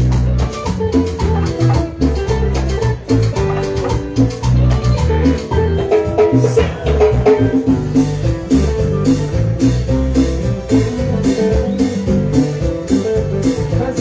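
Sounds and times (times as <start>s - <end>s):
electric guitar melody: 0.0s - 14.0s
live cumbia band playing: 0.0s - 14.0s.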